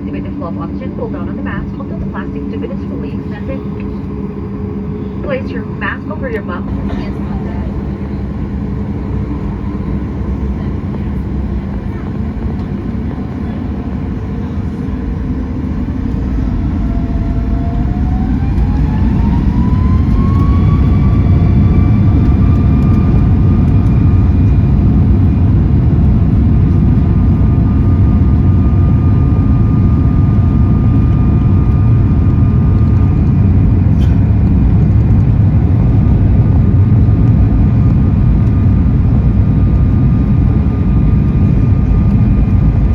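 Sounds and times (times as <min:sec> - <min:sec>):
jet engine whine: 0:00.0 - 0:42.9
jet engines roaring in cabin: 0:00.0 - 0:42.9.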